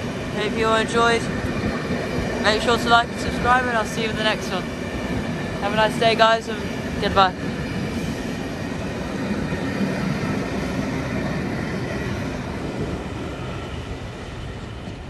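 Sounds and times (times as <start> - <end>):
train coaches rumbling past: 0.0 - 15.0.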